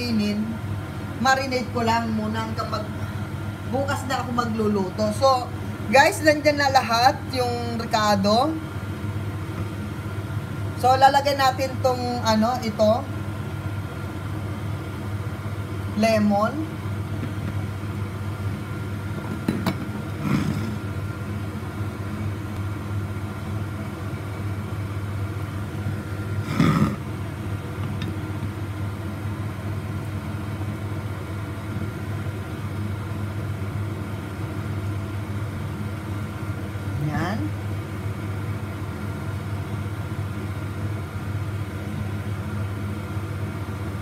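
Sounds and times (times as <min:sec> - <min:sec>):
low machine hum: 0:00.0 - 0:44.0.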